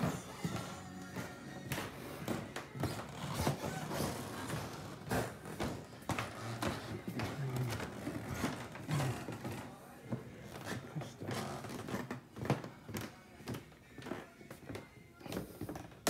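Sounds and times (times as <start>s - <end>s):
footsteps on wooden floor: 0.0s - 16.0s.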